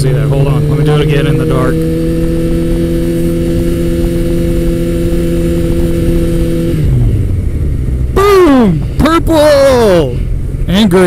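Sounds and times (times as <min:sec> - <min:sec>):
motorcycle engine running: 0:00.0 - 0:11.0
wind rush: 0:00.0 - 0:11.0.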